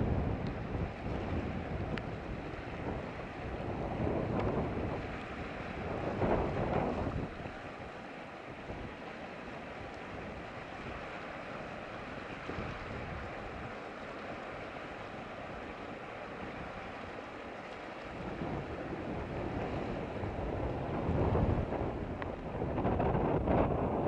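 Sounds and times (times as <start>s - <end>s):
wind buffeting microphone: 0.0s - 7.9s, 11.8s - 14.4s, 15.0s - 24.0s
sea wash hiss: 0.0s - 23.6s.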